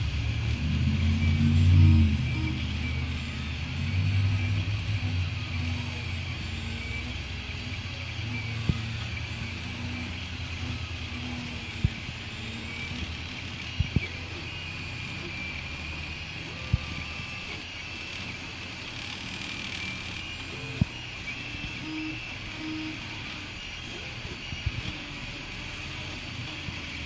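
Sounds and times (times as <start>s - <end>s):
printer fans whirring: 0.0s - 27.0s
stepper motor tones: 0.0s - 27.0s.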